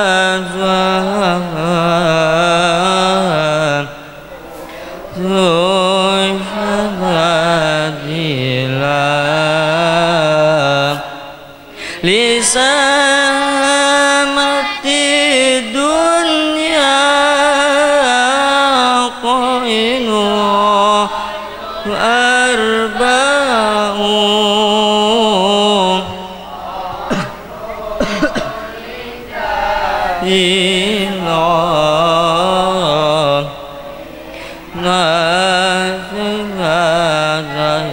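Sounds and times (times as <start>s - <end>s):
young man chanting into a microphone: 0.0s - 37.9s.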